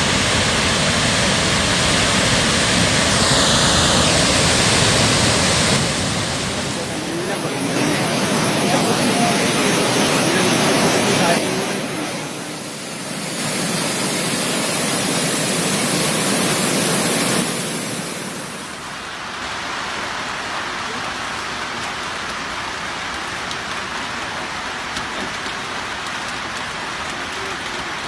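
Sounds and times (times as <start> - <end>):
heavy rain on water: 0.0 - 28.0
river rushing over weir: 0.0 - 28.0.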